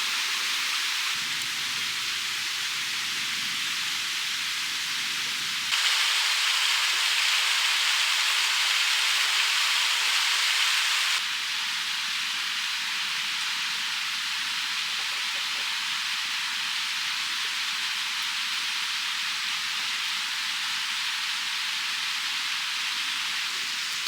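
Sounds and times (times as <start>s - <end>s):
steady hissing noise: 0.0s - 24.0s.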